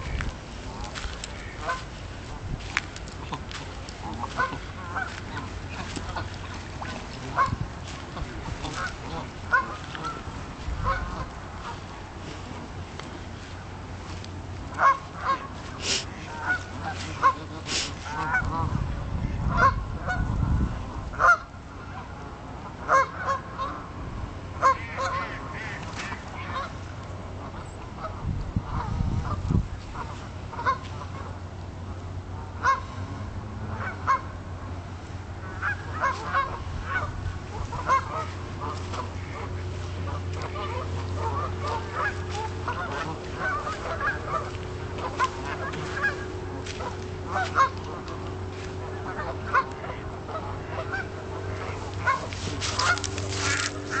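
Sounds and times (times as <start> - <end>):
geese honking: 0.0 - 24.0, 24.6 - 54.0
low rumbles: 0.0 - 54.0.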